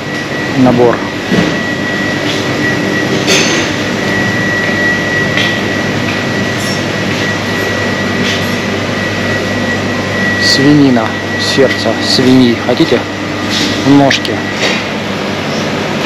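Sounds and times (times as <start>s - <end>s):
machinery hum and hiss: 0.0s - 16.0s
thin high whine: 0.0s - 16.0s.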